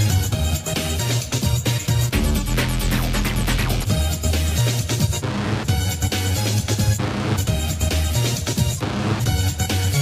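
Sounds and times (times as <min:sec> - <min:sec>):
electronic rave dance music: 0:00.0 - 0:10.0.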